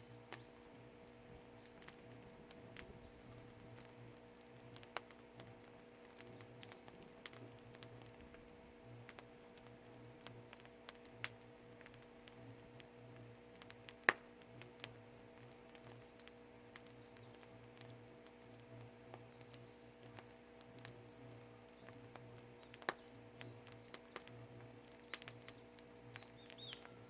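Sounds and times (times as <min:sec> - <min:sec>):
firewood crackling and popping: 0:00.0 - 0:27.0
steady low hum: 0:00.0 - 0:27.0.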